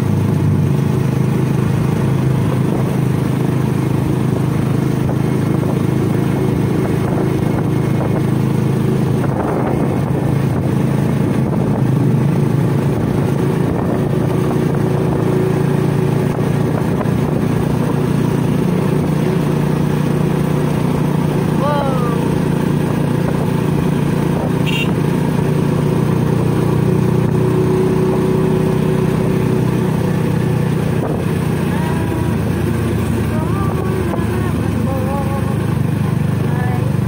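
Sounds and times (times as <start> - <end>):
small vehicle engine running: 0.0 - 37.0.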